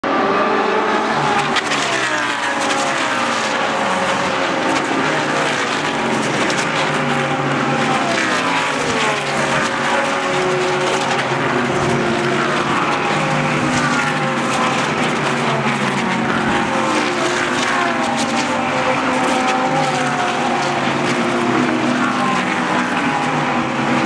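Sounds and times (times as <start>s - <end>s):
race cars passing: 0.0s - 24.0s.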